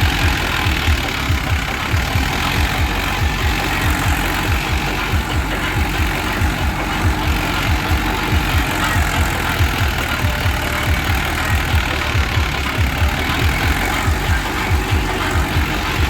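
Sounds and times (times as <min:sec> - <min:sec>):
rotavator spinning free: 0:00.0 - 0:16.0
tractor diesel engine running: 0:00.0 - 0:16.0.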